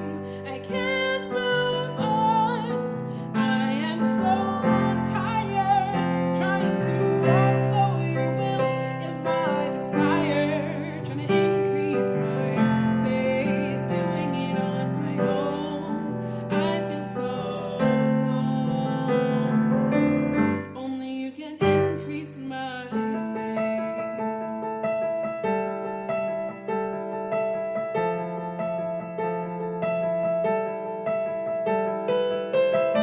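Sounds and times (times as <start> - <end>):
slow piano music: 0.0 - 33.0.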